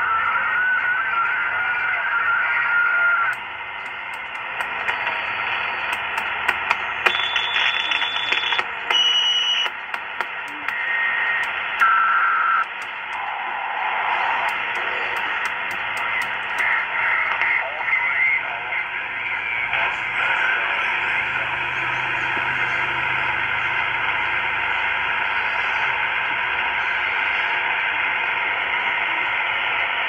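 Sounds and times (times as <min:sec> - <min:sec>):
radio static hiss: 0:00.0 - 0:23.0, 0:23.9 - 0:30.0.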